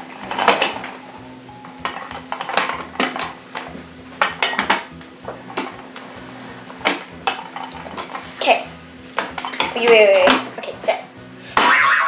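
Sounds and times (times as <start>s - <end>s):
containers and utensils clinking: 0.0s - 11.8s
faint background music: 0.0s - 12.0s.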